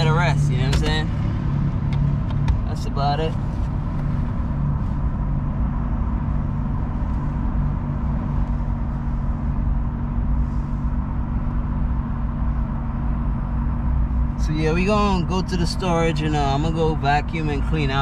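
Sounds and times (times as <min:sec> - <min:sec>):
car cabin engine and road noise: 0:00.0 - 0:18.0.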